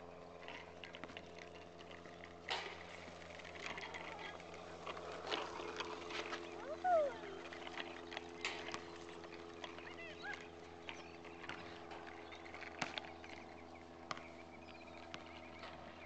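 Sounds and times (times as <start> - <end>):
steady low hum: 0.0 - 16.0
small birds chirping: 0.3 - 16.0.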